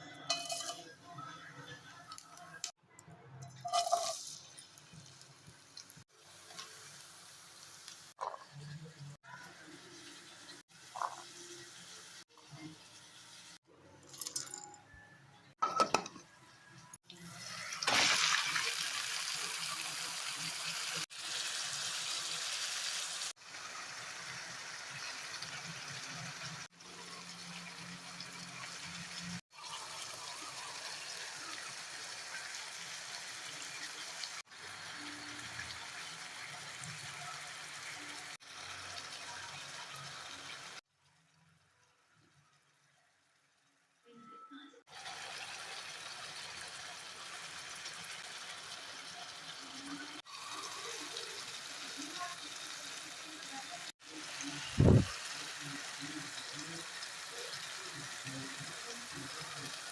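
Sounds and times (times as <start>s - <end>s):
food sizzling in hot oil: 0.0s - 2.8s, 3.6s - 13.6s, 17.0s - 40.9s, 44.8s - 59.9s.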